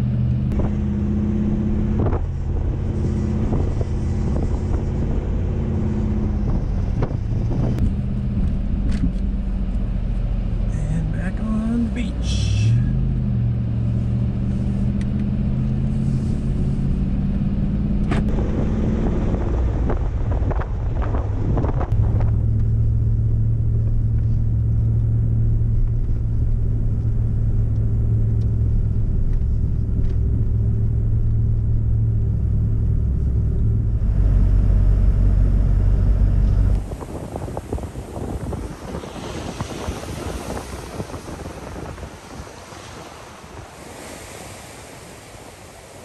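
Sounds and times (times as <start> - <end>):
low drone of engine and tyres: 0.0 - 46.0.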